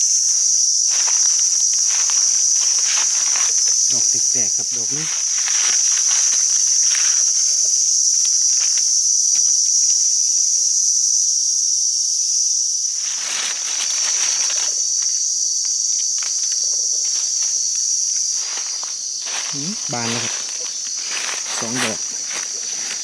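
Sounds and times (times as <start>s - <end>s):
dry leaves rustling: 0.0s - 10.4s, 12.4s - 23.0s
insects droning: 0.0s - 23.0s.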